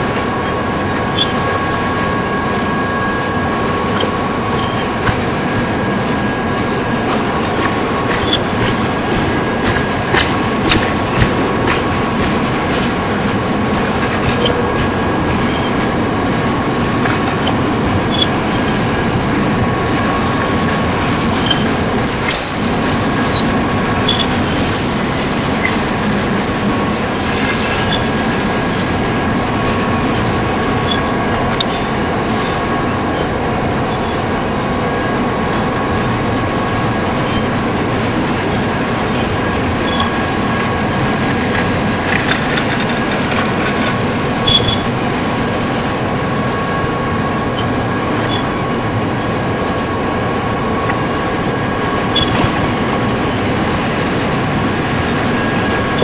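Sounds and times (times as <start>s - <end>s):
faint high wheel whine: 0.0s - 56.0s
train wheels rumbling on rail: 0.0s - 56.0s.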